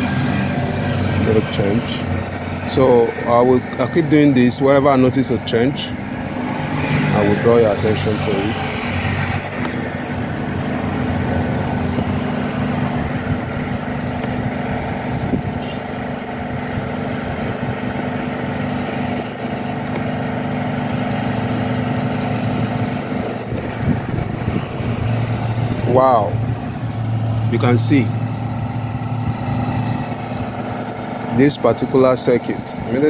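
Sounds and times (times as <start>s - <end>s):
motor humming: 0.0s - 33.0s.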